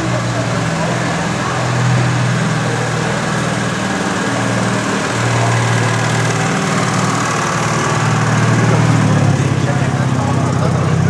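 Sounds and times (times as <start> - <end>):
small car engine running: 0.0 - 11.0.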